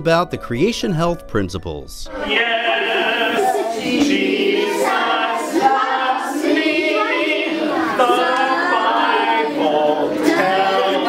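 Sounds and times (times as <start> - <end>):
children singing: 2.1 - 11.0.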